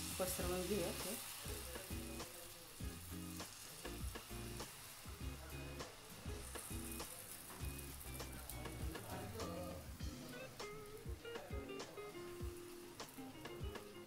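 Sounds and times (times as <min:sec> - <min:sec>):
background music: 0:00.0 - 0:14.0
batter sizzling in hot oil: 0:00.0 - 0:14.0.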